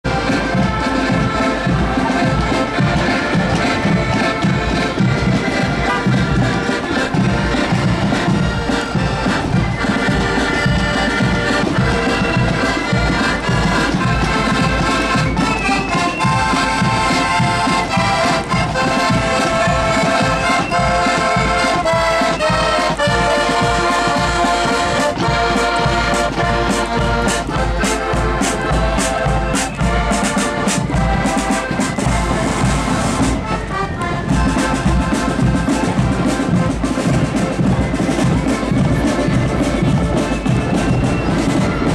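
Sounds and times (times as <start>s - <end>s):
accordion band playing: 0.0s - 41.9s
marching drums: 0.0s - 41.9s.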